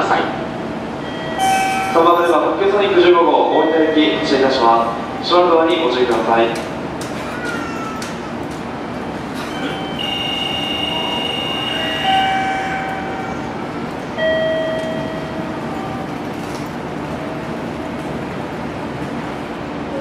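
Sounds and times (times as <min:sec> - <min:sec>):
station noise: 0:00.0 - 0:07.2, 0:08.5 - 0:20.0
electric train hum: 0:00.0 - 0:20.0.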